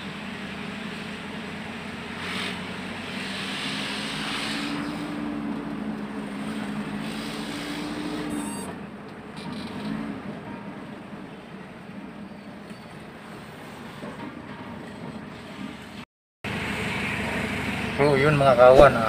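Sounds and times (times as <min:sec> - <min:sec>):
road noise: 0:00.0 - 0:19.0
vehicle engine hum: 0:00.0 - 0:19.0.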